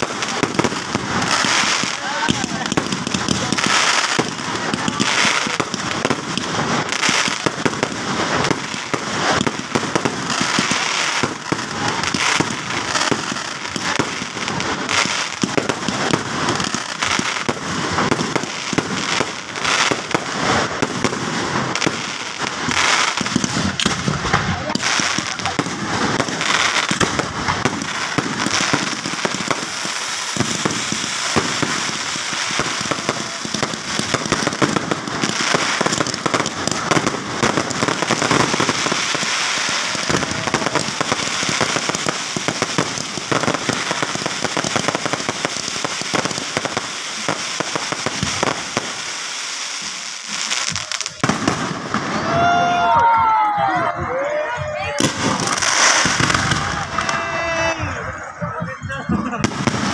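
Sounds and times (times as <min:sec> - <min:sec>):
fireworks bangs: 0:00.0 - 0:59.9
fireworks crackle and hiss: 0:00.0 - 0:59.9.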